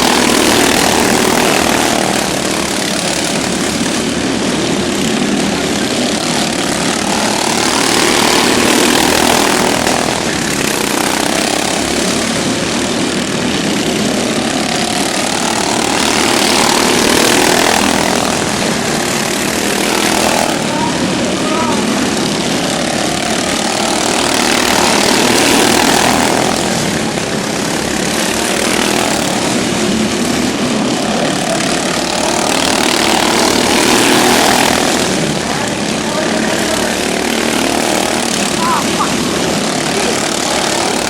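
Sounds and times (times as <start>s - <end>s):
racing lawn mower engines: 0.0s - 41.0s.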